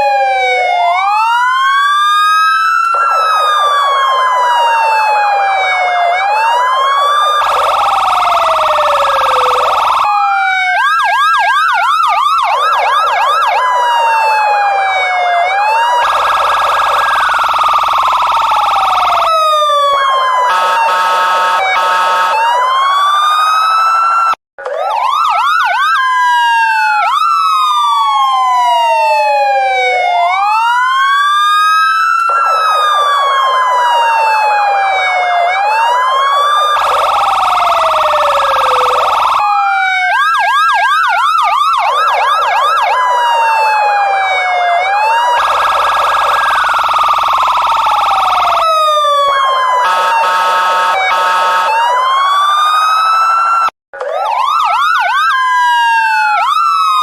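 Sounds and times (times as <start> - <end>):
police siren wailing and yelping: 0.0 - 57.0.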